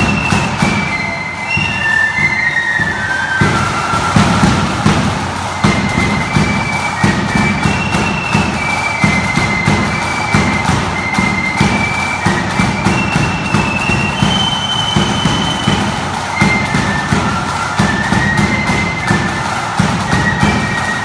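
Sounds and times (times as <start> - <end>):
flutes playing melody: 0.0 - 21.0
side drums beating: 0.0 - 21.0.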